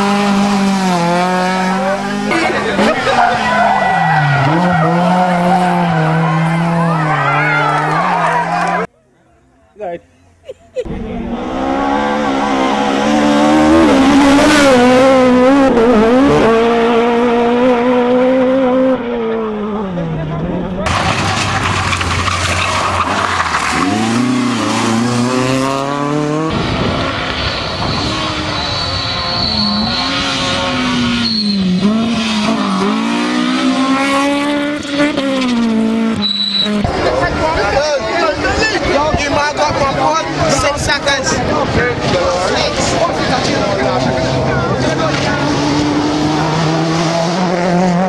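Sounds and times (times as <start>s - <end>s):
rally car engine at high revs: 0.0s - 8.9s, 10.8s - 48.0s.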